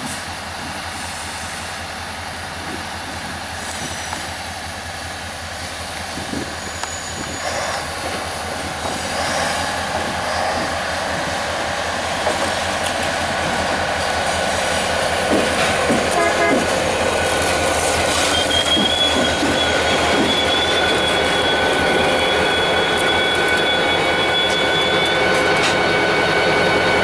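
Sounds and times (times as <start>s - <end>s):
locomotive engine rumble: 0.0s - 27.0s
rail and wheel noise: 0.0s - 27.0s.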